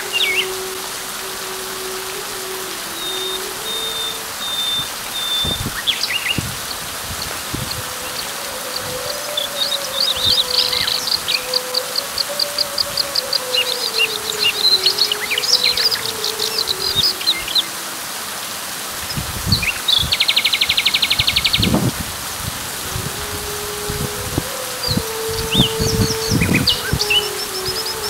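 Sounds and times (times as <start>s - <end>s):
birds chirping: 0.0s - 22.0s, 23.0s - 28.0s
rain hissing: 0.0s - 28.0s.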